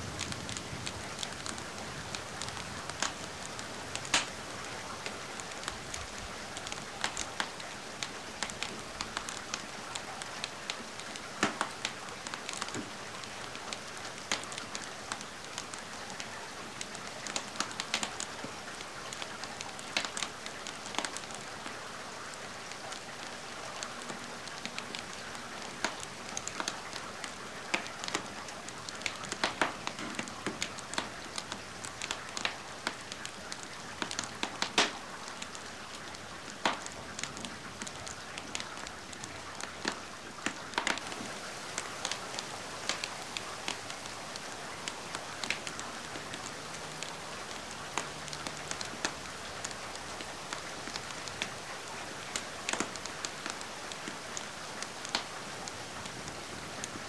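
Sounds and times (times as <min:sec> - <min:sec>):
steady rain hiss: 0:00.0 - 0:57.0
wood fire crackling: 0:00.0 - 0:57.0.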